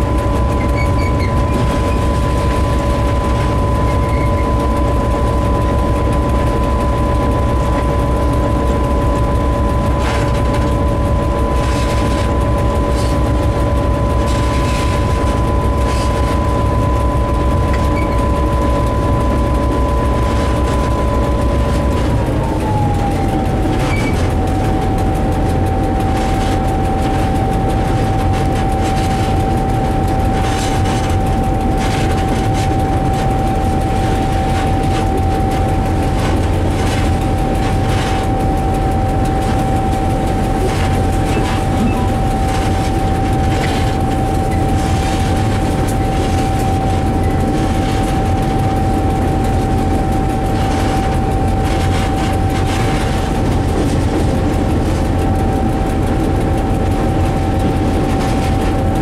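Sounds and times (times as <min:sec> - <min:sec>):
locomotive engine rumbling: 0:00.0 - 0:59.0
steady engine whine: 0:00.0 - 0:59.0.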